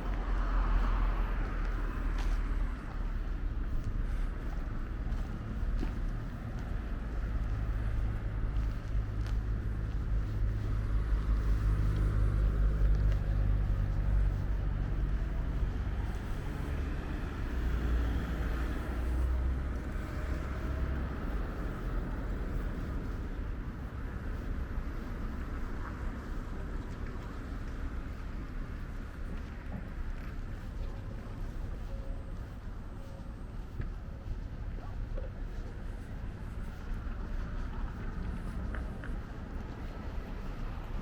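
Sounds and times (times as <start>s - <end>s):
passing vehicle engine rumble: 0.0s - 41.0s.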